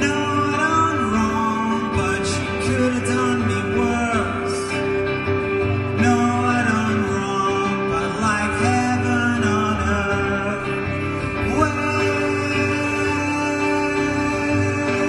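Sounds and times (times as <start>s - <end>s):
electric guitar: 0.0s - 15.0s
man singing: 0.0s - 15.0s.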